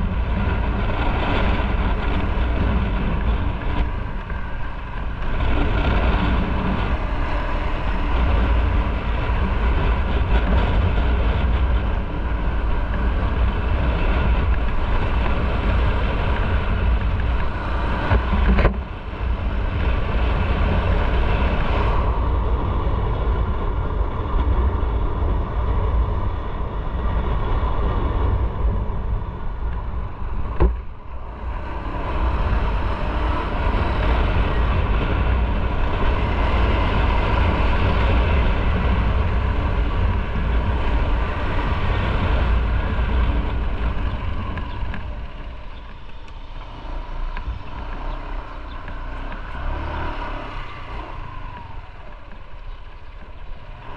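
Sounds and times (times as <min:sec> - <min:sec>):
motorcycle engine: 0:00.0 - 0:53.9
road noise: 0:00.0 - 0:53.9
wind rumble on microphone: 0:00.0 - 0:53.9.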